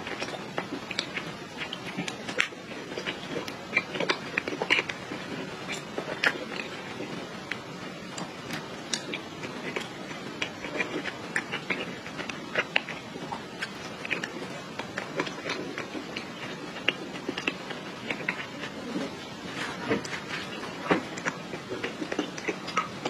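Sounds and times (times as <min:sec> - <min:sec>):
chewing with mouth smacks: 0:00.0 - 0:23.0.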